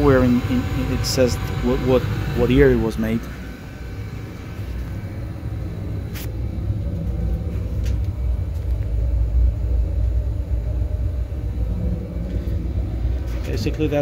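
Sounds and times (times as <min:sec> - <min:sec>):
boiler burner rumbling: 0:00.0 - 0:14.0.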